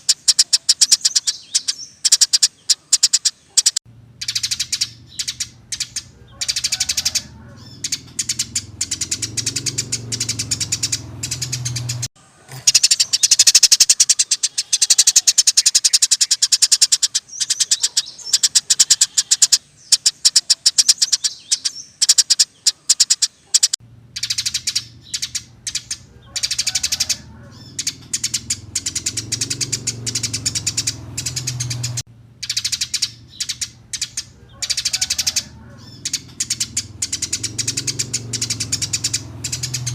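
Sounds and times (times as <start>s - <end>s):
songbirds chattering trills: 0.0s - 39.9s.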